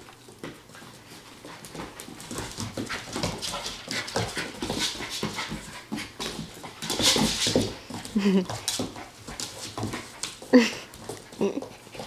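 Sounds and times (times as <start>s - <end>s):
puppy panting: 0.7s - 12.0s.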